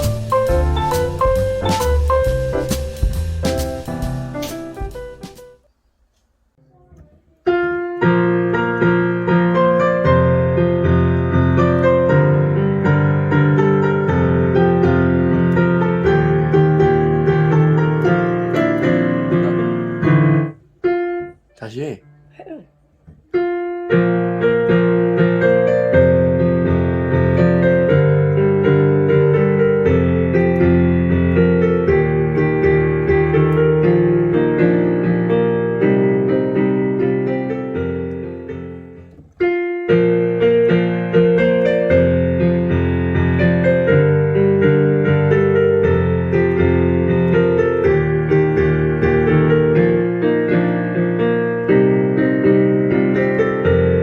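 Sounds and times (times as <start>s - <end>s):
lively classical piano piece: 0.0s - 5.7s, 7.4s - 54.0s.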